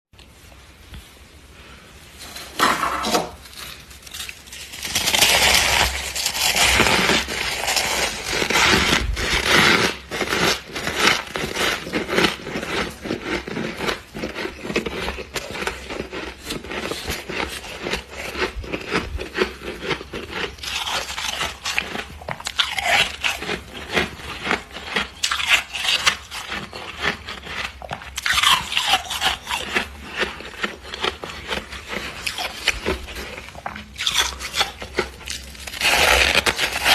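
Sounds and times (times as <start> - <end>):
freezer frost crunching and scraping: 2.1 - 36.9.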